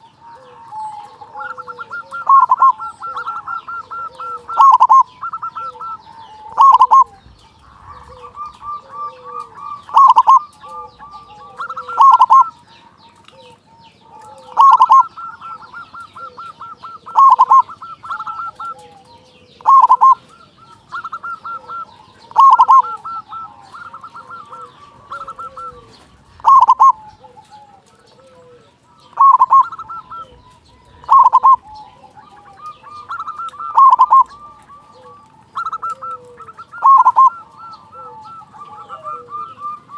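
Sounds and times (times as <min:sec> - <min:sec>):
dove cooing: 0:00.0 - 0:39.9
rapid quiet bird notes: 0:00.0 - 0:39.9.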